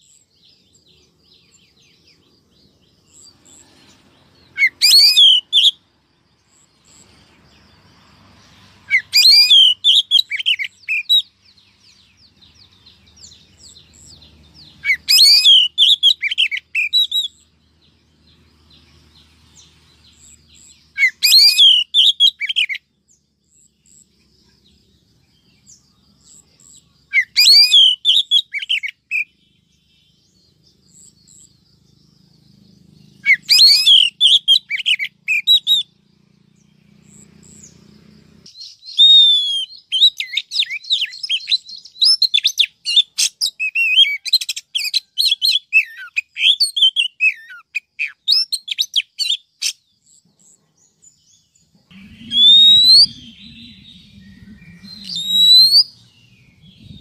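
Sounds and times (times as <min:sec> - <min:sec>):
bird singing chirps and whistles: 0:00.0 - 0:07.8, 0:08.4 - 0:24.1, 0:24.7 - 0:57.0
faint bird chirps: 0:00.0 - 0:57.0.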